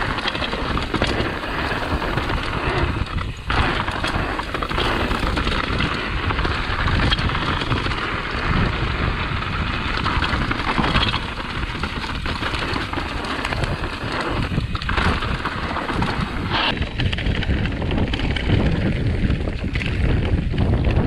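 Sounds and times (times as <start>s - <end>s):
bike rattling: 0.0s - 21.0s
tyres rolling on dirt: 0.0s - 21.0s
wind buffeting microphone: 0.0s - 21.0s.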